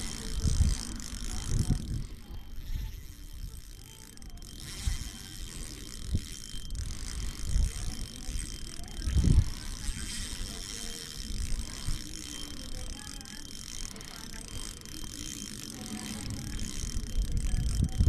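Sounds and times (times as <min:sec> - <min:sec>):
fishing reel drag clicking: 0:00.0 - 0:18.0.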